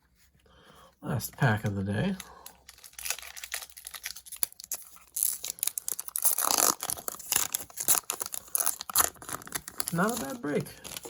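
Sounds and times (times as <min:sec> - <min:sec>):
card pack wrapper tearing and crinkling: 0:02.0 - 0:11.0.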